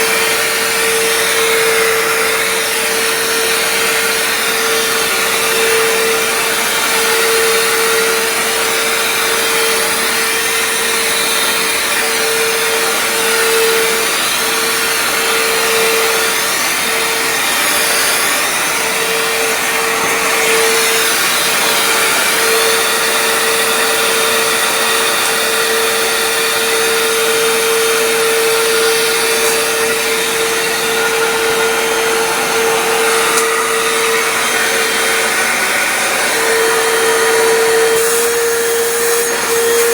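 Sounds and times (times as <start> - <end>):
floor cleaner motor whine: 0.0 - 39.9.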